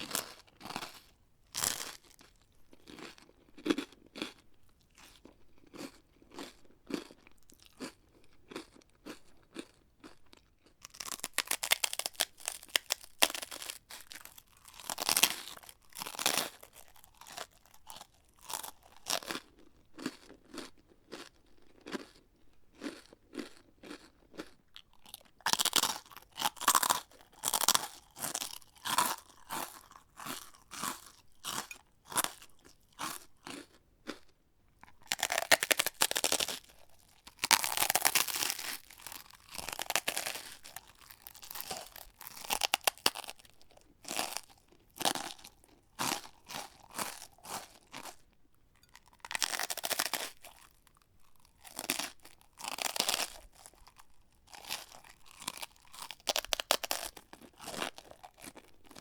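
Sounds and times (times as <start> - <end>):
person chewing crunchy snack: 0.0 - 59.0.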